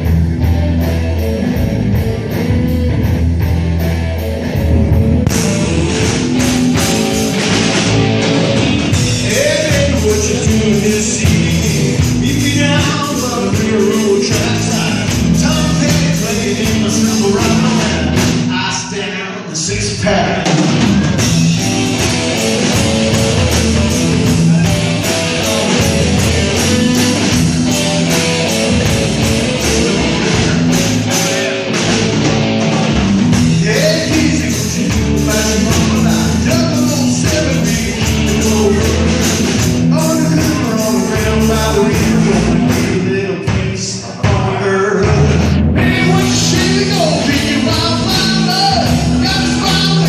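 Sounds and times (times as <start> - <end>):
rock band playing: 0.0 - 50.0.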